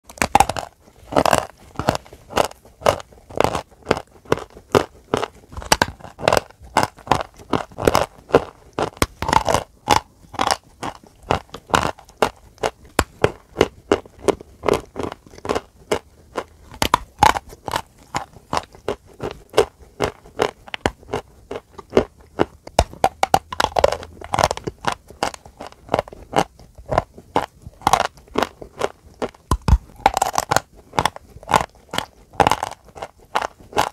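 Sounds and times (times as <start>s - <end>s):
chalk crunching between teeth: 0.2s - 33.9s.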